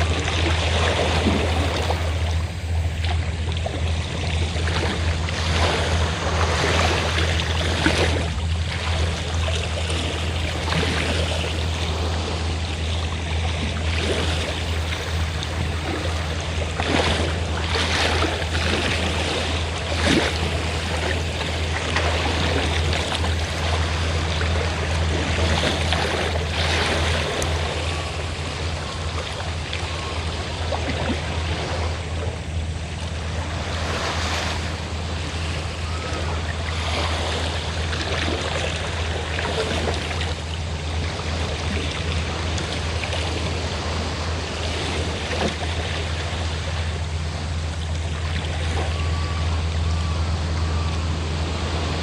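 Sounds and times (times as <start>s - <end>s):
boat engine drone: 0.0s - 52.0s
sea waves washing ashore: 0.0s - 52.0s.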